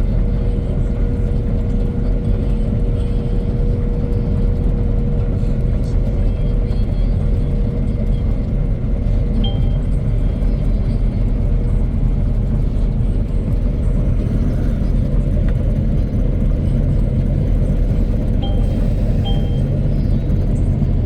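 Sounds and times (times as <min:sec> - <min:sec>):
mower engine droning: 0:00.0 - 0:21.0.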